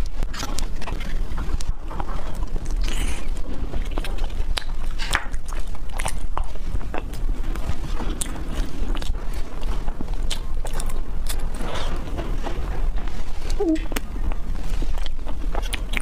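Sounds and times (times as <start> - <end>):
wet mouth clicks and chewing: 0.0 - 12.1, 13.5 - 16.0
low hum: 0.0 - 16.0.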